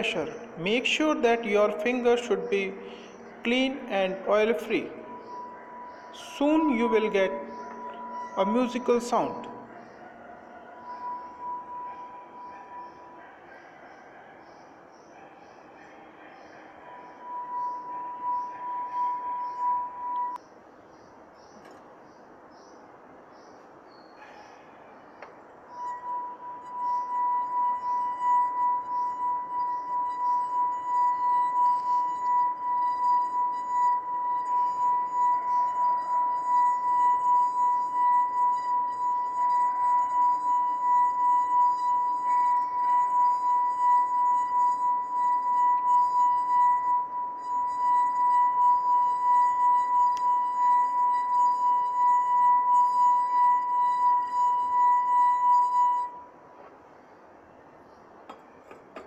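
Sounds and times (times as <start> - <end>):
glass ringing tone: 0.0 - 13.6, 16.4 - 20.4, 25.3 - 56.4, 58.3 - 59.0.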